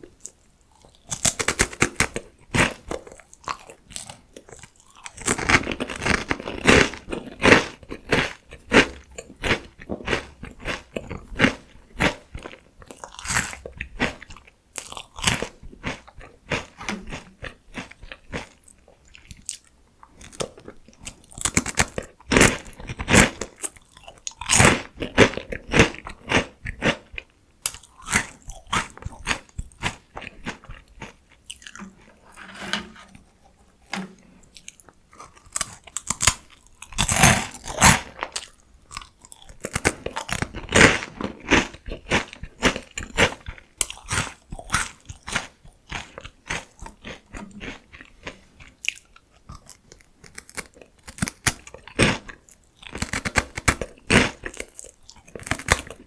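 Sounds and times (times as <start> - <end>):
crunching and chewing: 0.0 - 56.0.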